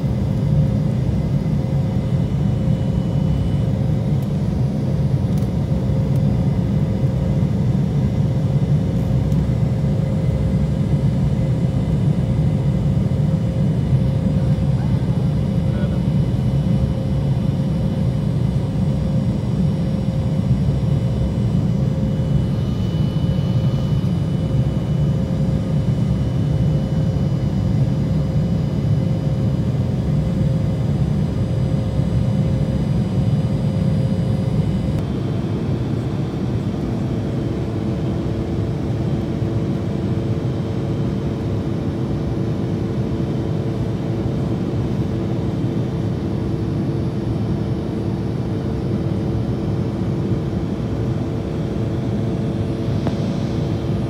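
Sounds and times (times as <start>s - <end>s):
airliner engine and airflow rumble: 0.0s - 54.0s.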